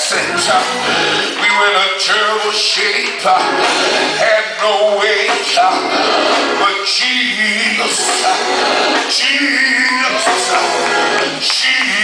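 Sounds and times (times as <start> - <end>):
music with man singing: 0.0 - 12.0.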